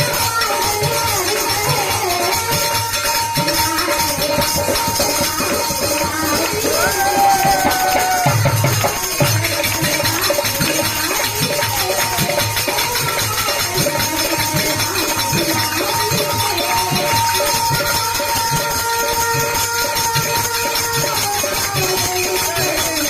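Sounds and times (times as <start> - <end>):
fast hand percussion rhythm: 0.0 - 23.0.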